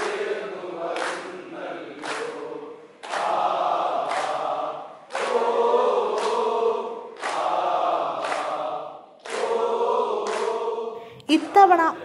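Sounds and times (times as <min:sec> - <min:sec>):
crew chanting rowing song: 0:00.0 - 0:12.0.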